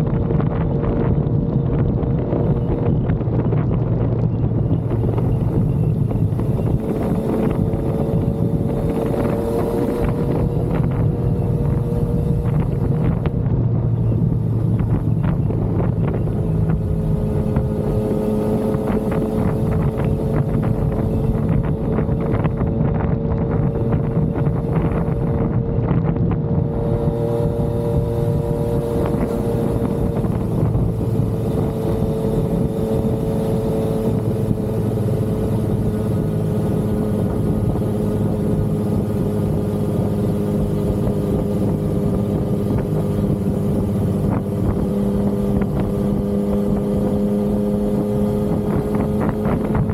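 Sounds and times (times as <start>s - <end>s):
motorcycle engine cruising: 0.0s - 49.9s
wind buffeting microphone: 0.0s - 49.9s.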